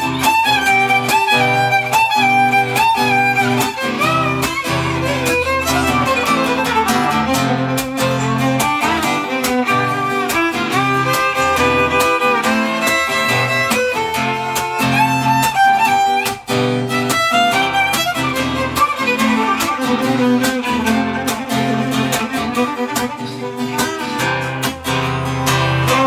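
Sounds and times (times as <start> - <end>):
strummed guitar chords: 0.0 - 26.0
violin melody: 0.0 - 26.0.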